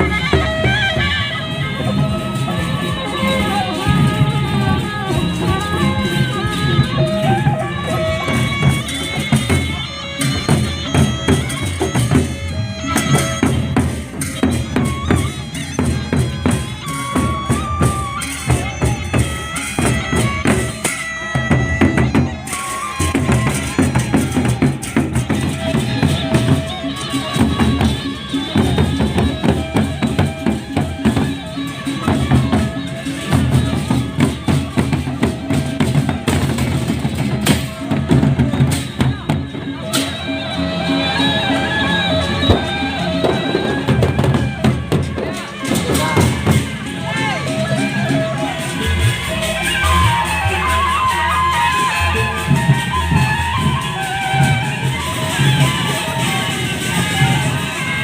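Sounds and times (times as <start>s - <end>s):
drums beating busy rhythm: 0.0s - 58.0s
held melody line: 0.0s - 58.0s.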